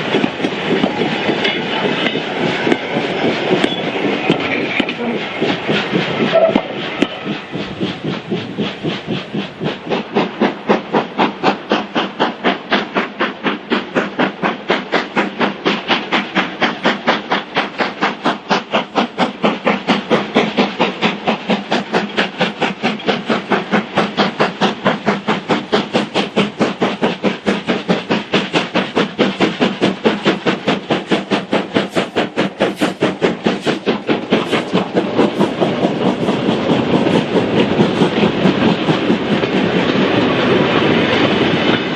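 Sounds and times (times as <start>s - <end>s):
steam hissing: 0.0s - 41.9s
steam locomotive exhaust beats: 0.0s - 41.9s.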